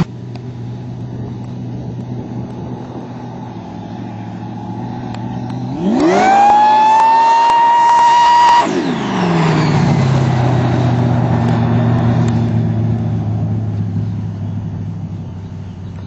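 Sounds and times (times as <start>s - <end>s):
car engine revs dropping: 0.0s - 16.0s.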